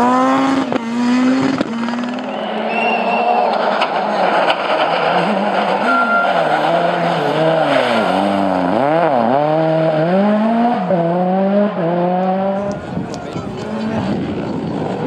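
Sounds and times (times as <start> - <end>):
rally car engine passing at speed: 0.0 - 15.0.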